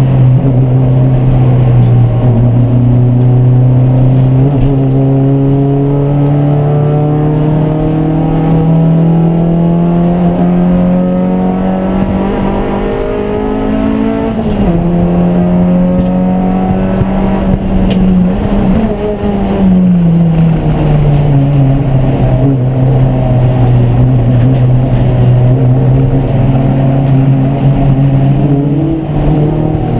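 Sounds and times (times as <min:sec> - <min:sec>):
race car engine running: 0:00.0 - 0:29.9.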